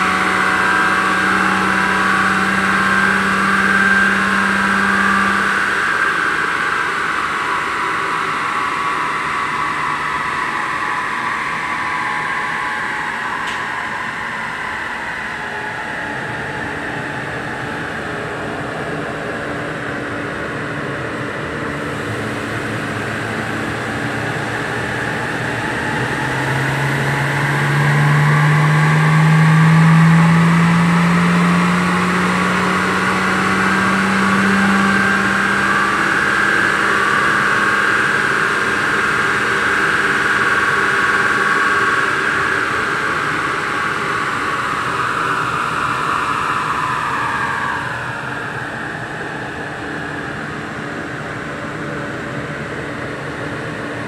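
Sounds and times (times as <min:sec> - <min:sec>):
engine running under load: 0:00.0 - 0:54.0
high whine: 0:00.0 - 0:54.0.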